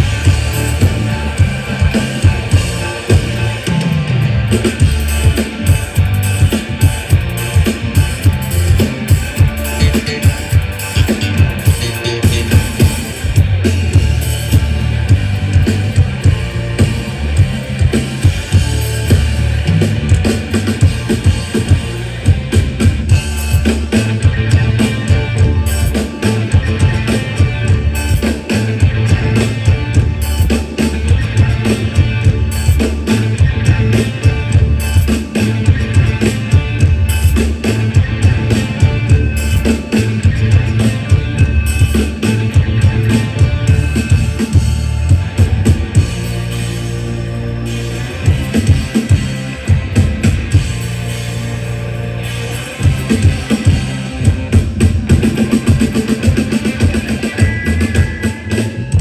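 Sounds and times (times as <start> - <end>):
band playing through sound system: 0.0 - 59.0
bass guitar: 0.0 - 59.0
electric guitar: 0.0 - 59.0.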